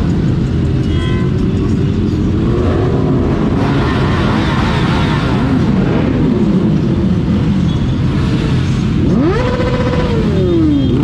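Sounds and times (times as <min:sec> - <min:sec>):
wind and road noise: 0:00.0 - 0:11.0
motorcycle engine revving: 0:01.4 - 0:11.0.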